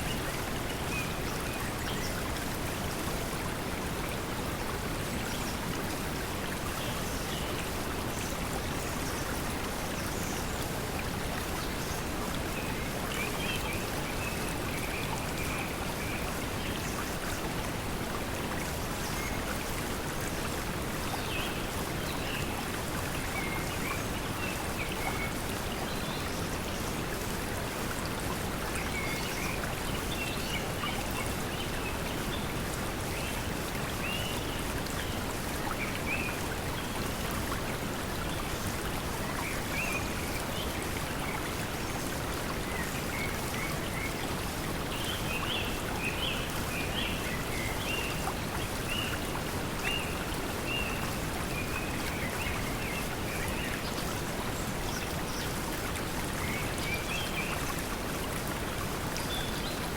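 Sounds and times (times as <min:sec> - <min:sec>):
flowing stream: 0:00.0 - 0:59.9.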